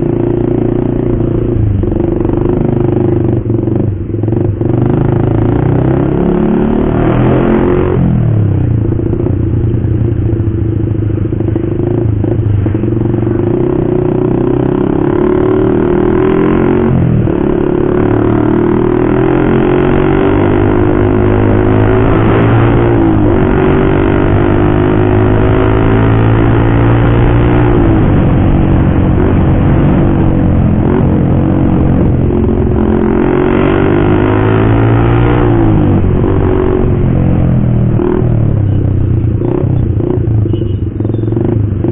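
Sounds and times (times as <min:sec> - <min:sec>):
motorcycle accelerating through gears: 0:00.0 - 0:41.9.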